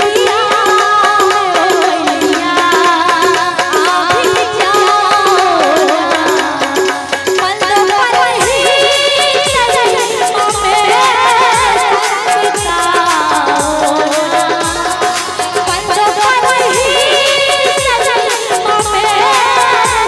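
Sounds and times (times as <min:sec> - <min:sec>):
steady rhythmic percussion: 0:00.0 - 0:20.0.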